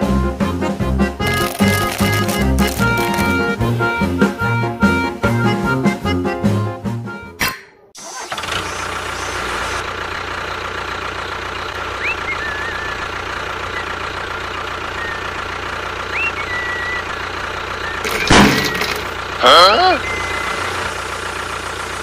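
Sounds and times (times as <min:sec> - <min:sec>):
engine humming: 0:00.0 - 0:07.4, 0:08.0 - 0:22.0.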